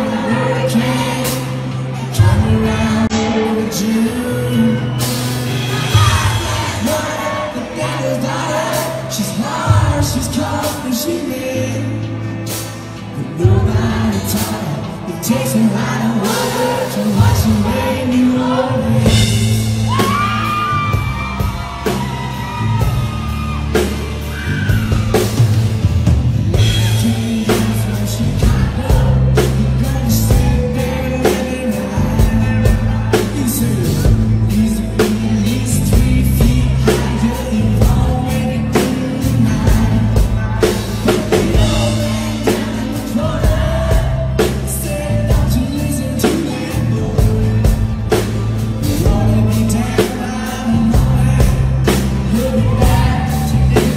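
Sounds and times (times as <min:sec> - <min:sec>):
man singing lead vocal: 0:00.0 - 0:25.4, 0:26.5 - 0:53.9
country-rock band playing: 0:00.0 - 0:53.9.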